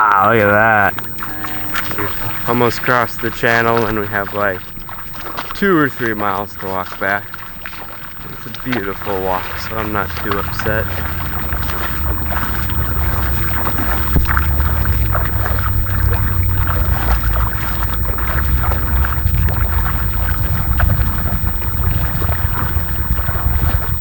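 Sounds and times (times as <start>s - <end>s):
footsteps splashing through water: 0.2s - 24.0s
wind rumble on microphone: 0.2s - 24.0s.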